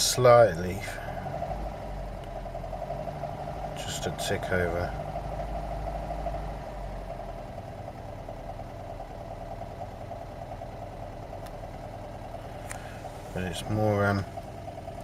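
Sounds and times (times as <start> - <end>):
engine idling with knocking: 0.0 - 15.0.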